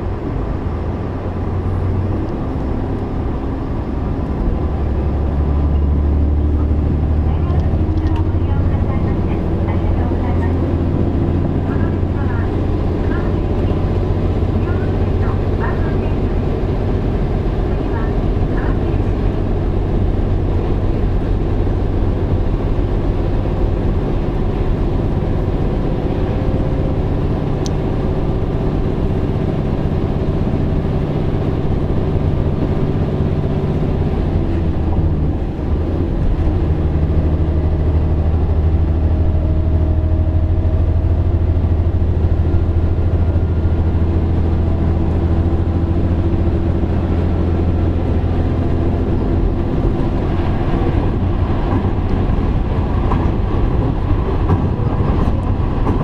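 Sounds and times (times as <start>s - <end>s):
diesel engine droning: 0.0s - 56.0s
wheels rumbling on rail: 0.0s - 56.0s.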